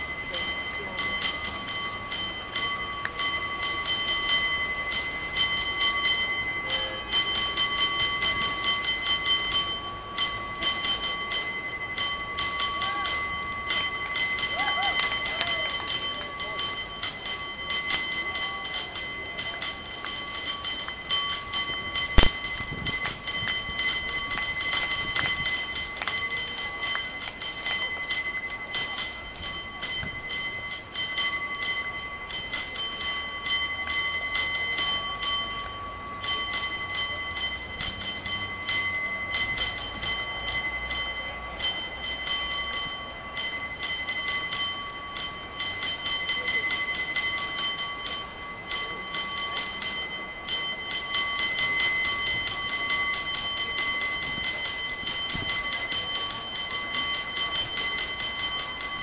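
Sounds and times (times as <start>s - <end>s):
cable car bell ringing: 0.0s - 59.0s.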